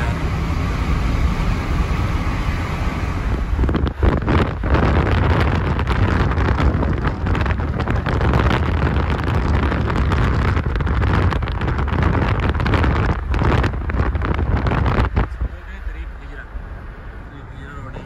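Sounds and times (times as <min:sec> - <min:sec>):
wind buffeting microphone: 0:00.0 - 0:17.3
car road noise: 0:00.0 - 0:18.0.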